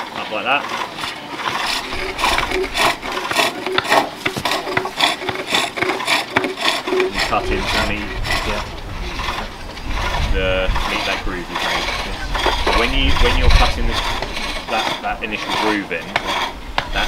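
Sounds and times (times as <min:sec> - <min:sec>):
hook tools scraping spinning wood: 0:00.0 - 0:17.0.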